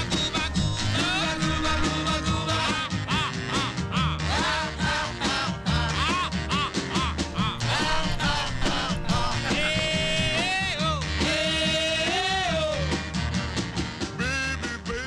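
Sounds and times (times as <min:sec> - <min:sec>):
upbeat song with singing: 0:00.0 - 0:13.4.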